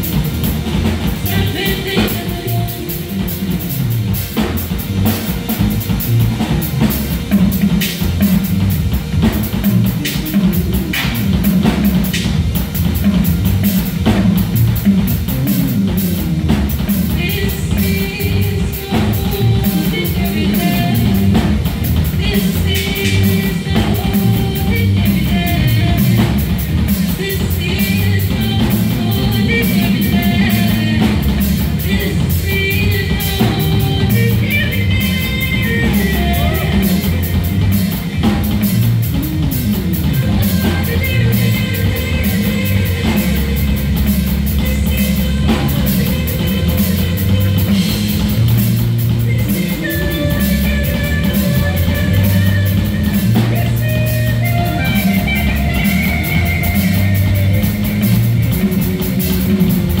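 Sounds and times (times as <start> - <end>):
drum kit beat: 0.0 - 60.0
live rock band playing: 0.0 - 60.0.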